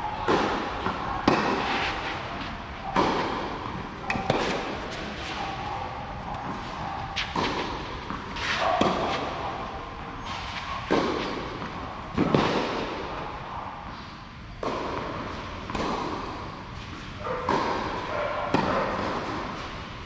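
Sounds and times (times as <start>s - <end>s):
tennis ball hits and bounces: 0.2s - 5.4s, 6.3s - 9.8s, 10.5s - 13.2s, 14.6s - 19.7s.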